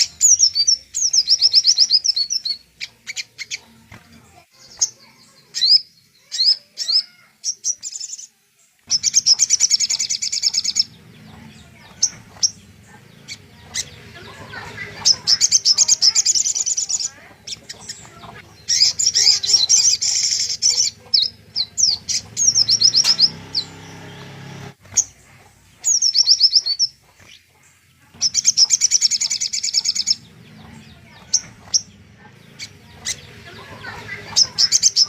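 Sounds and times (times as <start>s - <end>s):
songbird trilled chirps: 0.0s - 3.8s, 4.6s - 24.3s, 24.9s - 35.0s.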